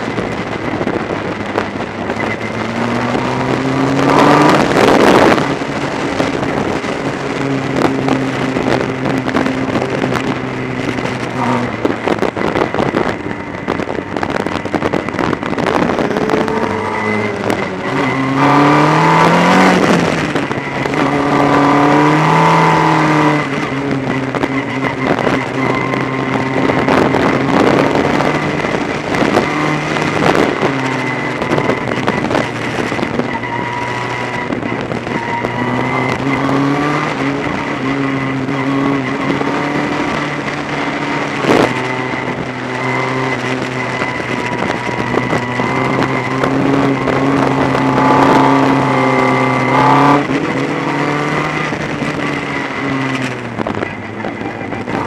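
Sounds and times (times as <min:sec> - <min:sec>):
high whine: 0:00.0 - 0:55.0
race car engine revving: 0:00.0 - 0:55.0
wind rush: 0:00.0 - 0:55.0.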